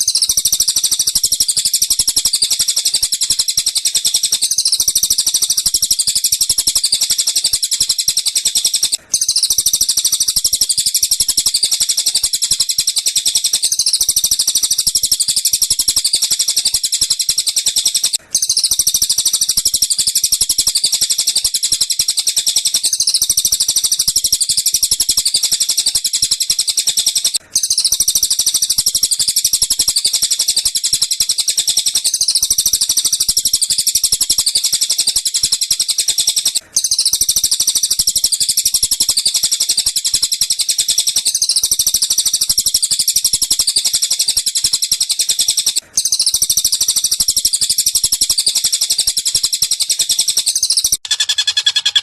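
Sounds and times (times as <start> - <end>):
rapid high bird chattering: 0.0 - 33.7, 39.2 - 52.0.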